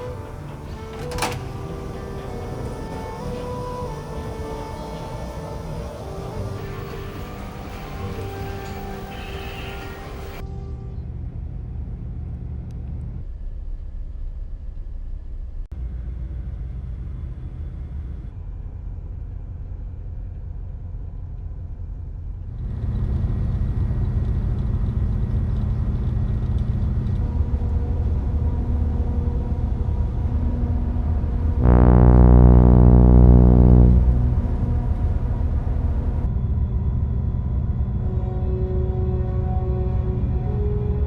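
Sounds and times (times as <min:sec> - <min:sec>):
low engine rumble: 0:00.0 - 0:41.0.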